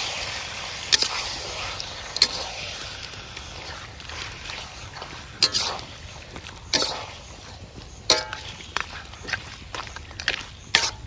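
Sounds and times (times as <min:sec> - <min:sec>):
steady low hiss: 0:00.0 - 0:11.0
metal ladle scraping pot: 0:00.8 - 0:09.5, 0:10.2 - 0:11.0.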